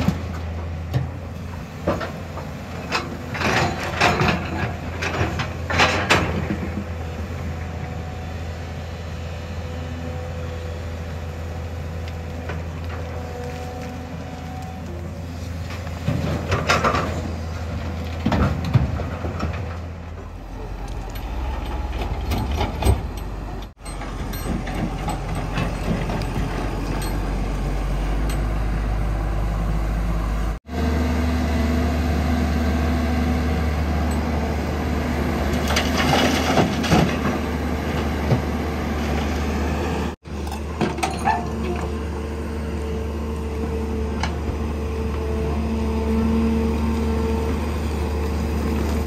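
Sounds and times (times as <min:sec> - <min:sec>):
diesel engines humming: 0:00.0 - 0:49.0
soil being dug and loaded: 0:00.0 - 0:49.0.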